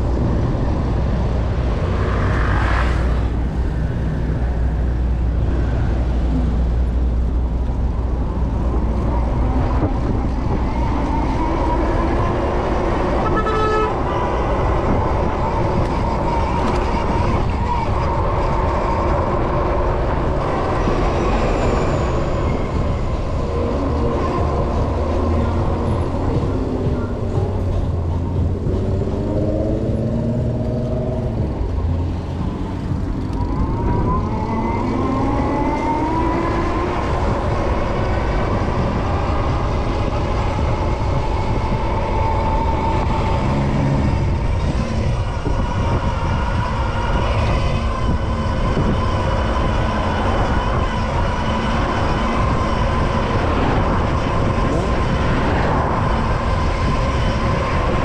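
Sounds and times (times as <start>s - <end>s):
road and traffic rumble: 0.0s - 58.0s.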